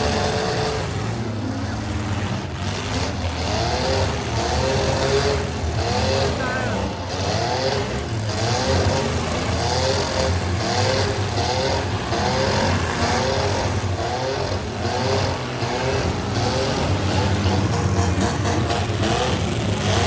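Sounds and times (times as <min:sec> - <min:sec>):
car engines revving hard: 0:00.0 - 0:20.0
loud rumble of motors: 0:00.0 - 0:20.0.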